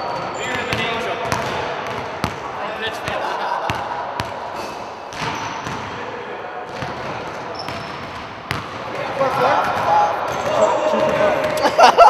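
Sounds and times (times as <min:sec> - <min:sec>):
basketballs bouncing on wooden court: 0:00.0 - 0:02.4, 0:03.0 - 0:04.5, 0:05.1 - 0:06.0, 0:06.7 - 0:11.7
background voices and movement: 0:00.0 - 0:12.0.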